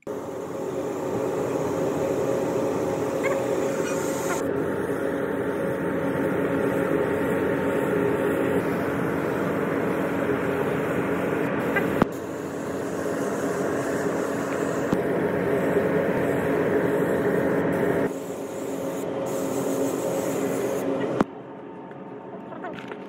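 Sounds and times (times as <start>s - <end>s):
spray gun hissing: 0.0s - 21.2s
ventilation hum: 0.0s - 23.0s.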